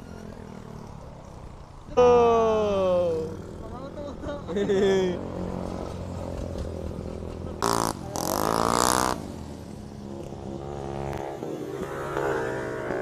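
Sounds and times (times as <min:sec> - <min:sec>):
motorcycle engine revving: 0:00.0 - 0:13.0
truck engine rumble: 0:00.0 - 0:13.0.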